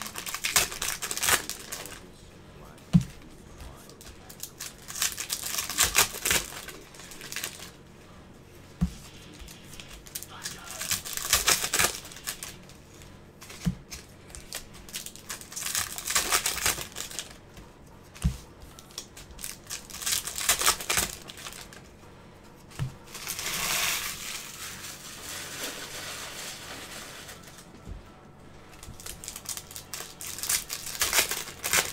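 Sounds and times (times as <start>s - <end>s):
wrappers crinkling and tearing: 0.0s - 7.8s, 9.0s - 17.5s, 18.7s - 21.9s, 23.0s - 27.8s, 28.7s - 31.9s.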